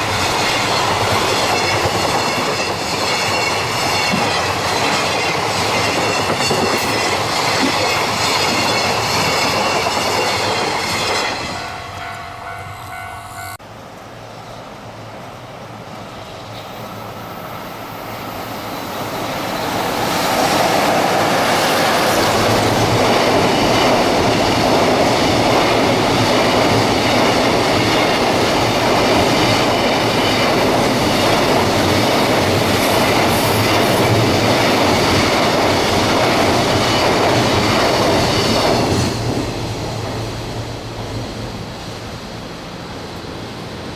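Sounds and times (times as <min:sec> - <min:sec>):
freight train passing: 0:00.0 - 0:43.9.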